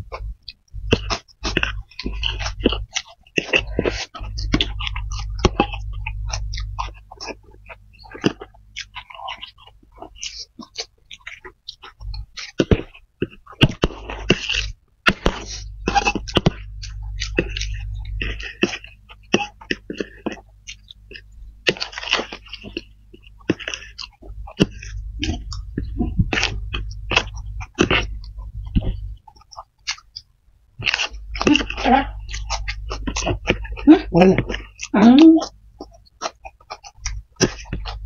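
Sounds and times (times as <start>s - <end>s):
wet chewing and slurping: 0.0s - 38.0s.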